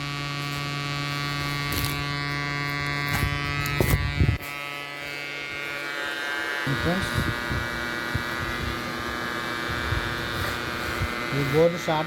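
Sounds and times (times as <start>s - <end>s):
mains buzz from speaker: 0.0s - 12.0s.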